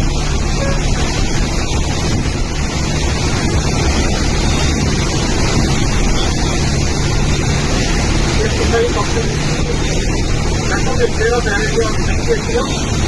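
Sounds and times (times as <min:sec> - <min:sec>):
wind buffeting microphone: 0:00.0 - 0:11.0
storm wind rushing: 0:00.0 - 0:12.2.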